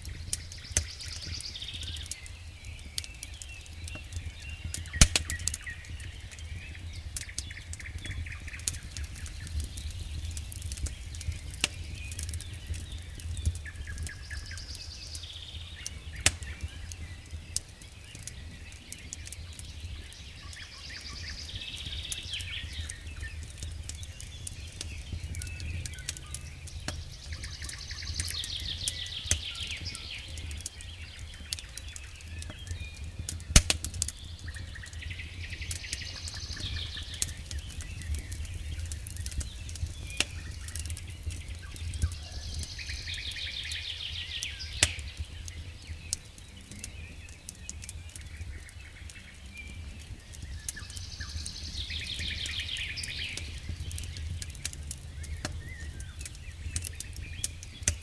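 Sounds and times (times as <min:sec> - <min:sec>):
campfire crackling and popping: 0:00.0 - 0:58.0
songbirds singing: 0:00.0 - 0:58.0.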